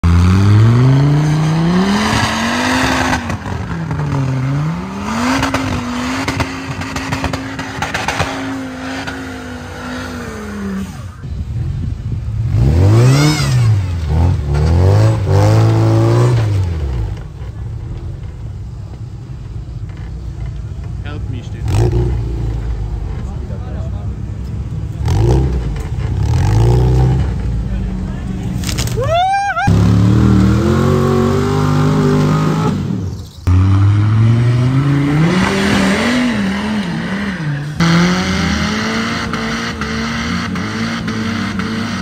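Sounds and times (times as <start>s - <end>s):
buggy engines revving: 0.0s - 42.0s.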